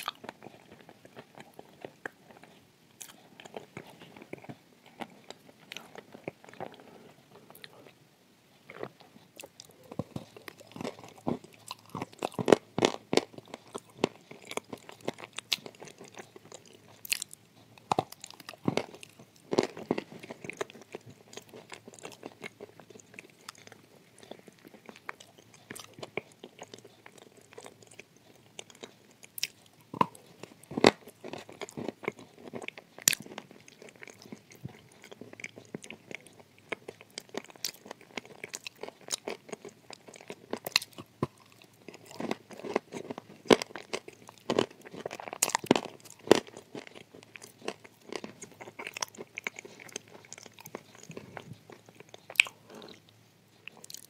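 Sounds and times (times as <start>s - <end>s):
person chewing crunchy clay: 0.0s - 8.0s, 8.6s - 54.0s.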